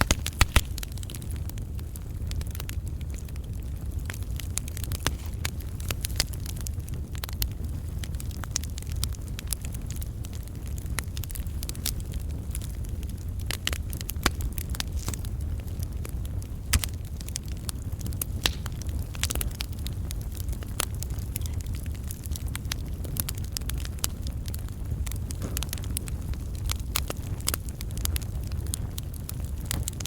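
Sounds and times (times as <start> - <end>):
low rumble of flames: 0.0 - 30.0
sharp fire pops: 0.0 - 30.0
wood crackling in fire: 0.0 - 30.0.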